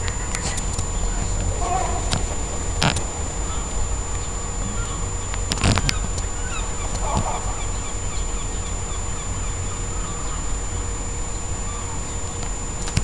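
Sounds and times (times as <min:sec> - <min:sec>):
gulls calling: 0:00.0 - 0:13.0
steady low rumble: 0:00.0 - 0:13.0.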